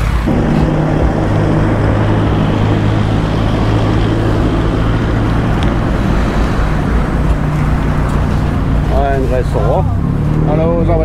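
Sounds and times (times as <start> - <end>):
engine humming: 0.0 - 11.0
irregular low rumble: 0.0 - 11.0.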